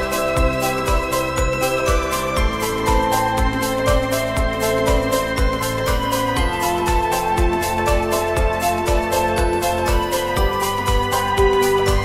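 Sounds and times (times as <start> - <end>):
steady thumping beat: 0.0 - 12.0.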